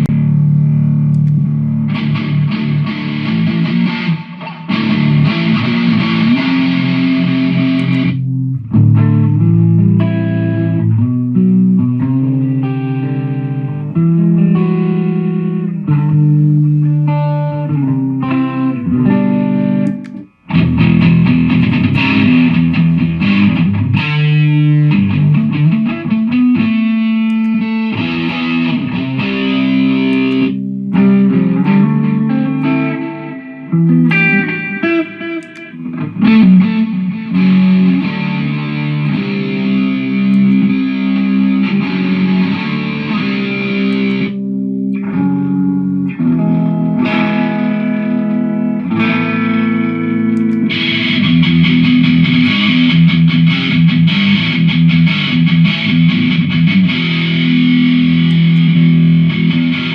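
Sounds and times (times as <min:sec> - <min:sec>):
electric guitar: 0:00.0 - 0:59.9.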